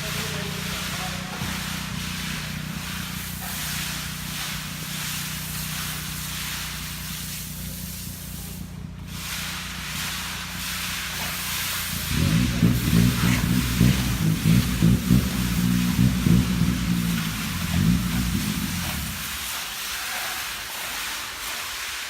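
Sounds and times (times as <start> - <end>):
engine running: 0.0 - 19.4
continuous hiss: 0.0 - 22.0.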